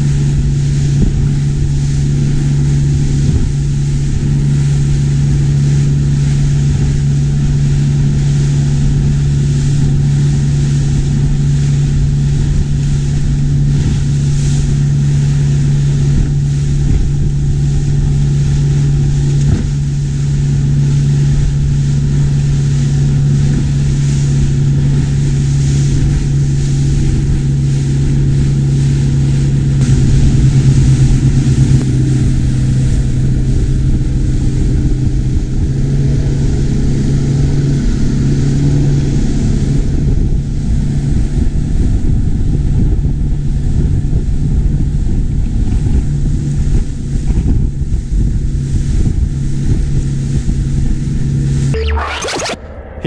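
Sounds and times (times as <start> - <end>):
outboard motor droning: 0.0 - 51.8
wind: 0.0 - 53.0.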